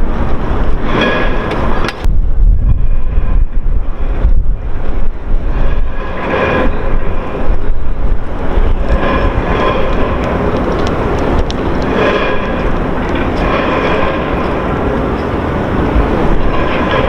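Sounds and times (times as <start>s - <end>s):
diesel engine rumbling: 0.0s - 17.0s
pump whine: 0.0s - 17.0s.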